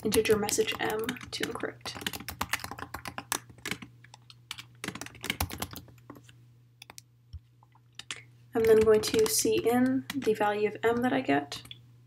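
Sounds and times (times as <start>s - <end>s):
computer keyboard typing: 0.0s - 11.8s.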